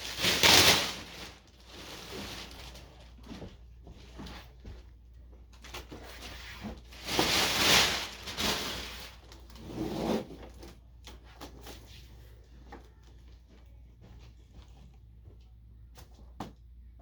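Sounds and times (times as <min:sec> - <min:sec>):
scraping and rustling handling: 0:00.0 - 0:04.8, 0:05.5 - 0:14.9.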